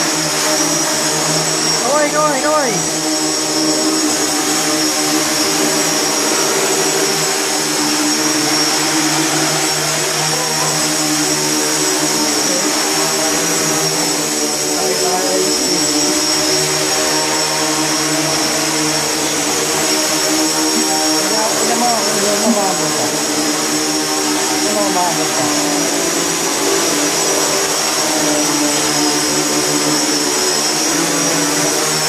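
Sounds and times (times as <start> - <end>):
drone propellers whirring: 0.0 - 32.0.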